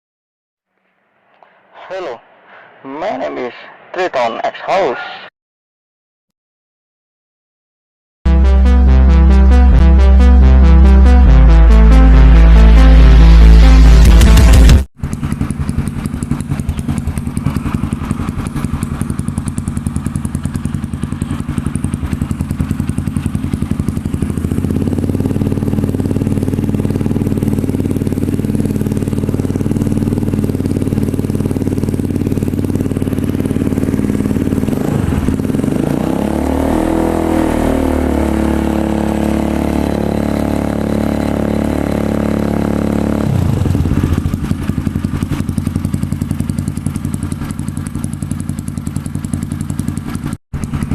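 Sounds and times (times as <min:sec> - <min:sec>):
motorcycle engine revving: 0:08.4 - 0:50.9.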